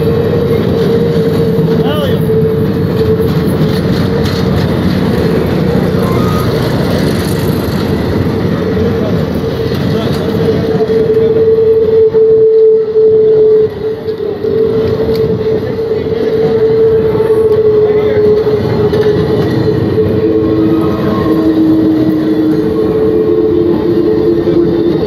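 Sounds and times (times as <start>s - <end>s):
train wheels rumbling on rails: 0.0s - 25.0s
train wheels squealing: 0.0s - 25.0s.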